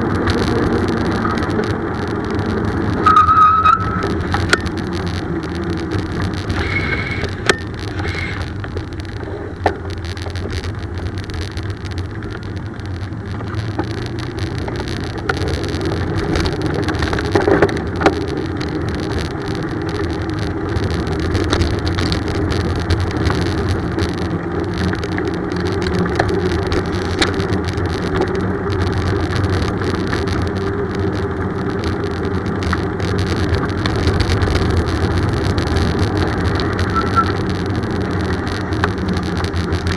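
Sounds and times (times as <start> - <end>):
bicycle clicks and rattles: 0.0 - 39.9
wind and road noise: 0.0 - 39.9.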